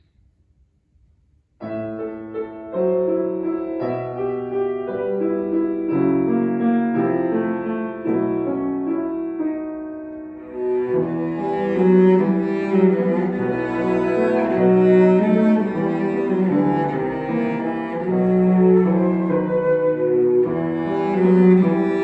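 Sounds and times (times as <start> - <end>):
slow piano chords and melody: 1.6 - 22.0.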